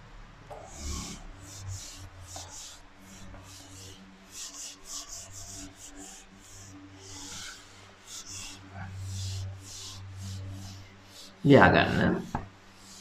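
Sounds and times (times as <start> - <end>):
eraser wiping a whiteboard: 0.5 - 13.0.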